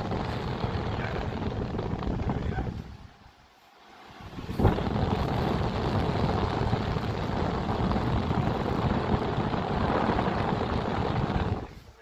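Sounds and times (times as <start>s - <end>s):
air conditioner rough rumbling: 0.0s - 12.0s.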